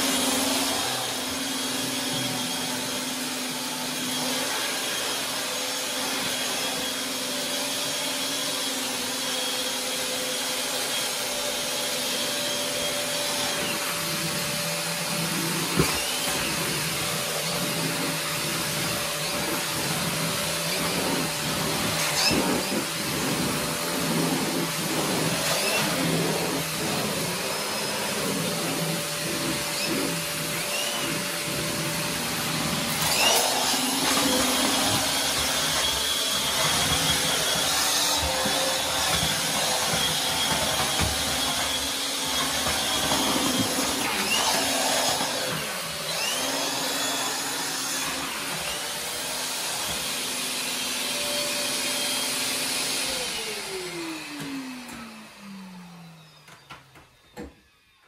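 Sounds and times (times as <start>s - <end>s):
vacuum cleaner running: 0.0s - 58.0s
vacuum motor winding down: 0.0s - 58.0s.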